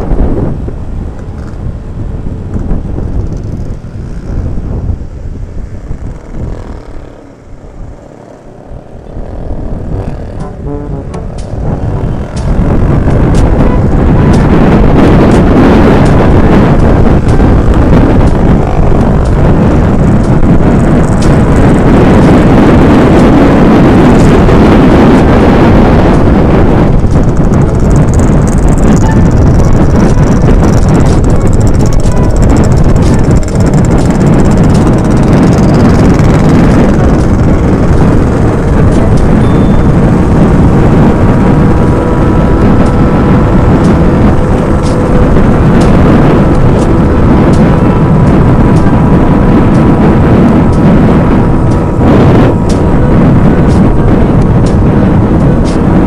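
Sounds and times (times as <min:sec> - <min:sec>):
faint motorcycle engine: 0:00.0 - 0:56.0
wind buffeting microphone: 0:00.0 - 0:56.0.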